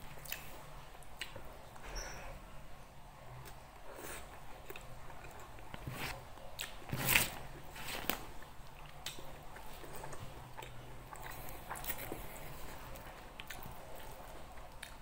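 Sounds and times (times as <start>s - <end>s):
person chewing food: 0.0s - 1.8s, 3.4s - 15.0s.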